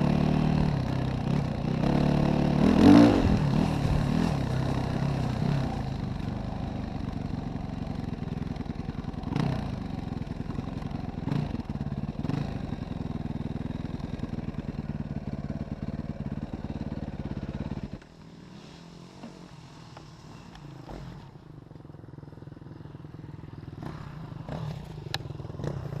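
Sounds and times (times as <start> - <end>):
motorcycle engine running at low revs: 0.0 - 26.0.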